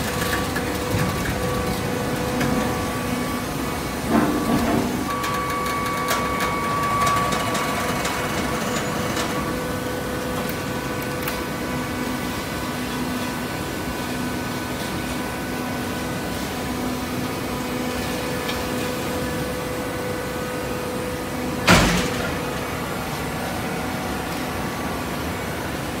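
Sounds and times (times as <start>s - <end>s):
baler machine hum: 0.0s - 26.0s.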